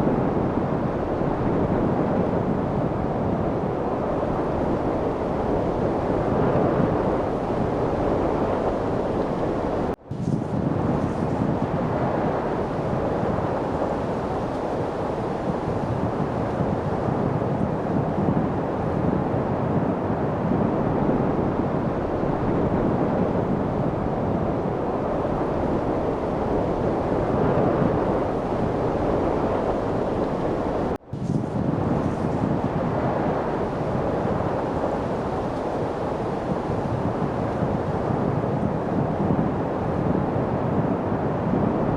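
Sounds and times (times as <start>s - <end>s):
light wind noise: 0.0s - 41.9s.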